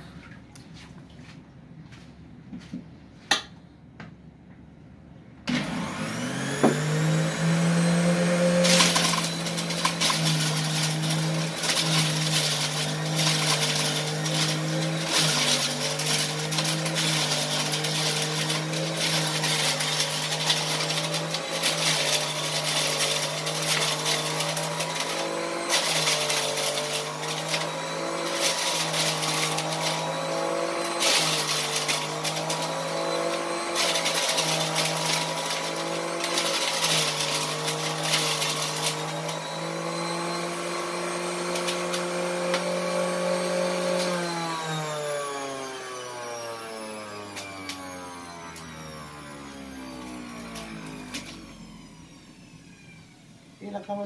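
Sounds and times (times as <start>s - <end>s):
juicer motor whirring: 5.5s - 53.6s.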